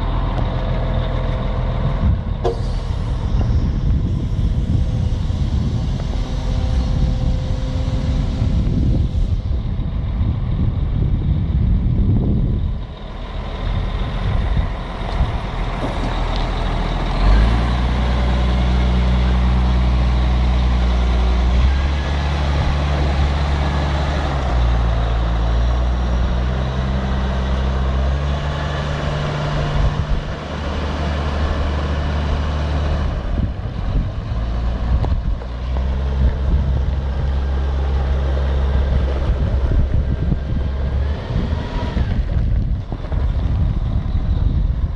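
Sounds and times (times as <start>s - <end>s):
diesel engine revving: 0.0s - 44.9s.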